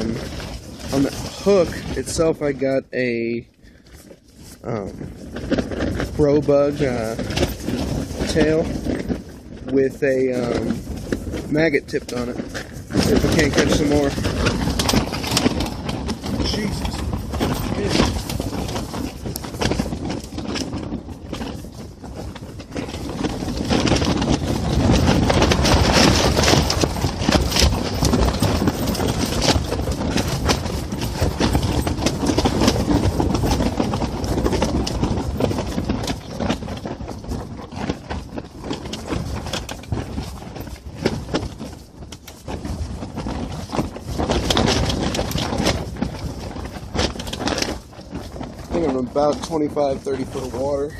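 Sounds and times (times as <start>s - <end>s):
wind rumble on microphone: 0.0s - 3.3s, 4.5s - 50.9s
fabric walls flapping in wind: 0.0s - 50.9s.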